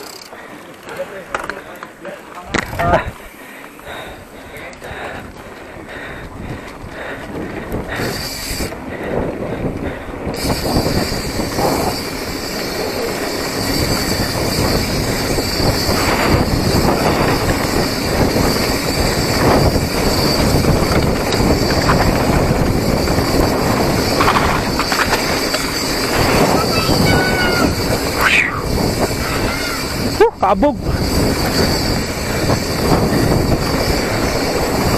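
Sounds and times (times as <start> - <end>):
bike rattling over rough ground: 0.0 - 34.9
bike tyre rumble: 0.0 - 34.9.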